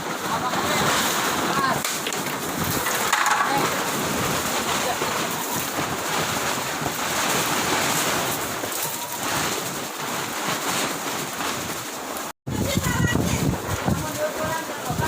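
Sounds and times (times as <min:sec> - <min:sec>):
strong wind: 0:00.0 - 0:15.0
waves breaking: 0:00.0 - 0:15.0.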